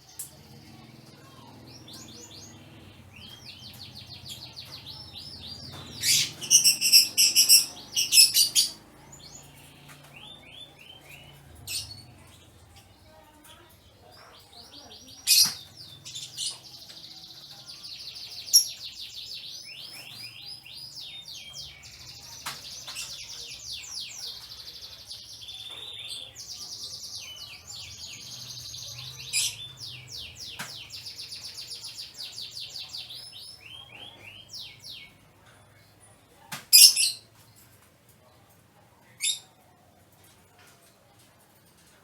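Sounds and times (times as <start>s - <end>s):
canaries singing trills: 0.0s - 42.0s.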